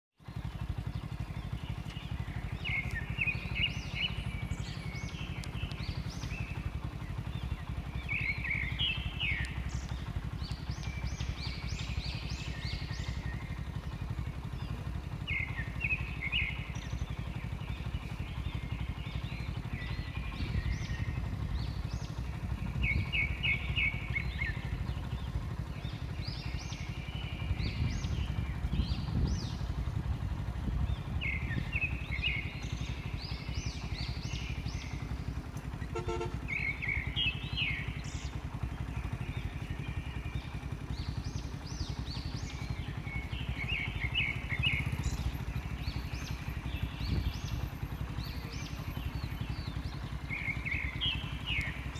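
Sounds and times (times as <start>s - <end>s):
birds chirping: 0.2s - 51.9s
vehicle engine idling: 0.2s - 51.9s.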